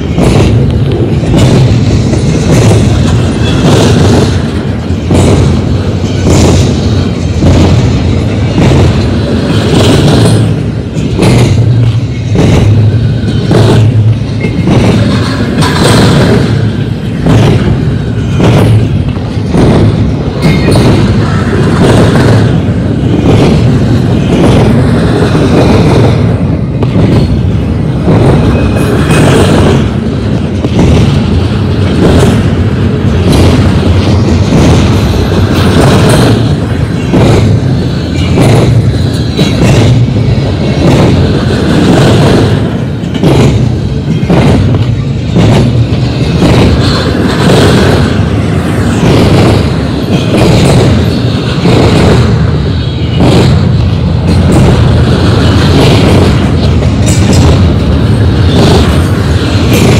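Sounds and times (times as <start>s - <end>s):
steel wheels rumbling on rail: 0.0s - 59.9s.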